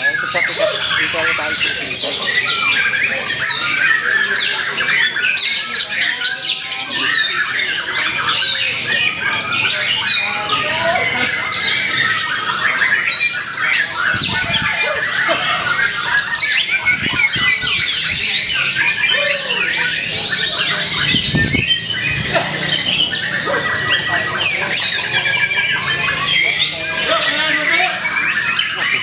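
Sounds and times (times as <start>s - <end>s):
chorus of songbirds: 0.0s - 29.0s
songbird whistling and chattering: 0.0s - 29.0s.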